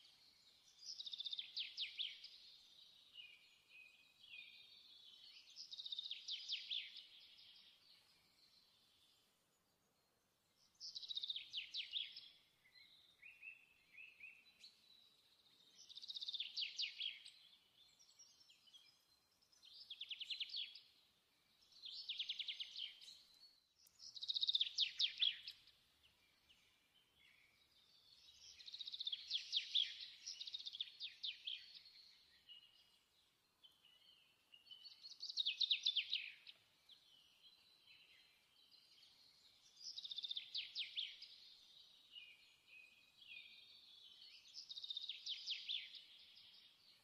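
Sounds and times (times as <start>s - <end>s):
bird trilling song: 0.0s - 9.2s, 10.6s - 21.0s, 21.6s - 33.0s, 33.6s - 47.0s.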